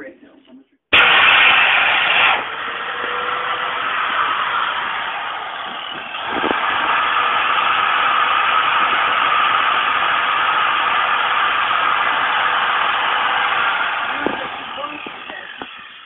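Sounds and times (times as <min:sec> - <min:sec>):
angle grinder whining on steel: 0:00.9 - 0:16.0.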